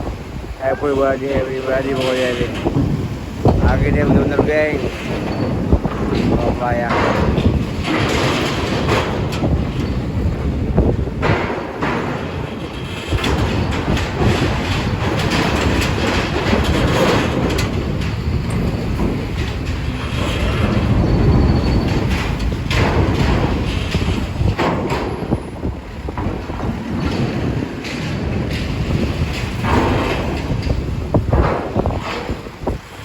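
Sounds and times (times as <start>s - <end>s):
metal clanks on a steel ramp: 0.0s - 33.0s
vehicles rumbling: 0.0s - 33.0s.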